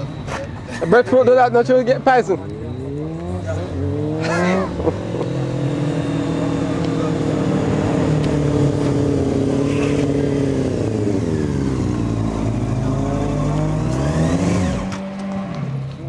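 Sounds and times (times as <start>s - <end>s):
motorcycle engine revving: 1.4s - 16.0s.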